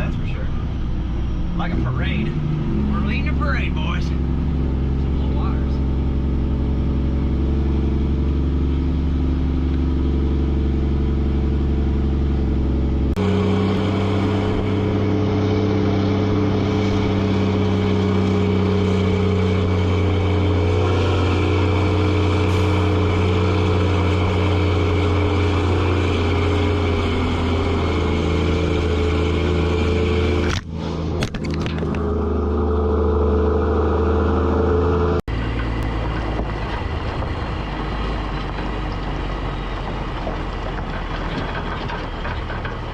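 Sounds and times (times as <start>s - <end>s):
truck diesel engine under load: 0.0s - 42.9s.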